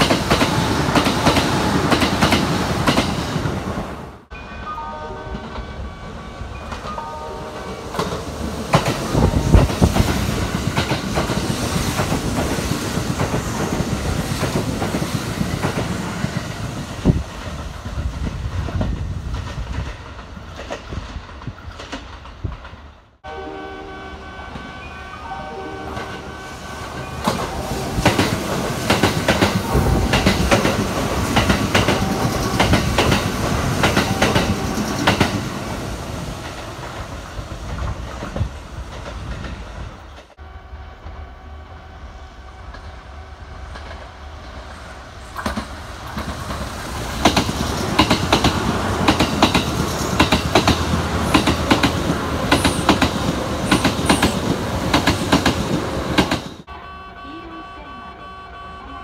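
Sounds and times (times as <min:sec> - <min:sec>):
train wheels clattering on rails: 0:00.0 - 0:03.8, 0:06.6 - 0:23.2, 0:26.8 - 0:40.4, 0:42.6 - 0:56.7.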